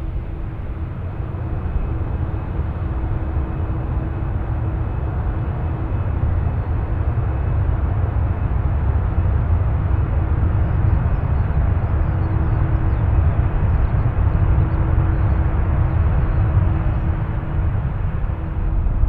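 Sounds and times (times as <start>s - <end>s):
jet airliner engines rumbling: 0.0s - 19.0s.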